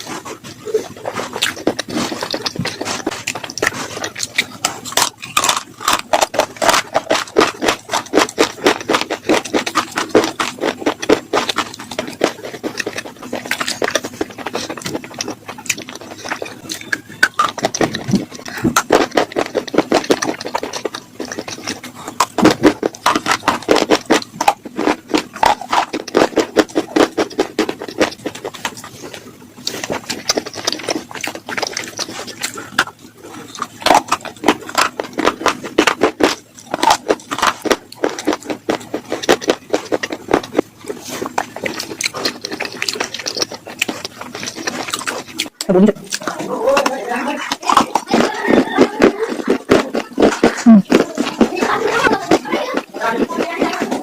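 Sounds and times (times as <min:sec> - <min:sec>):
slate pencils crunching: 0:00.0 - 0:54.0.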